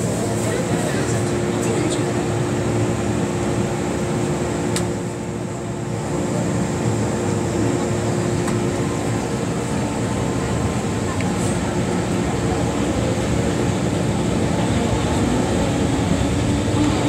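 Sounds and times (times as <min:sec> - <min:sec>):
train ventilation hum: 0:00.0 - 0:17.0.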